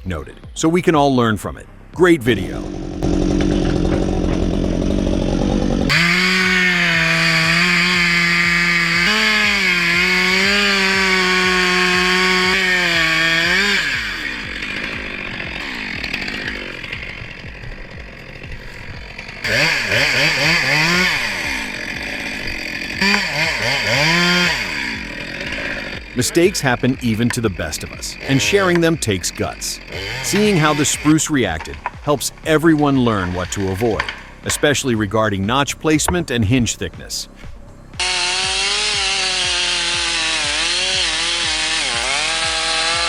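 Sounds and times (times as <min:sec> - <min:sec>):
chainsaw cutting: 0:02.4 - 0:43.0.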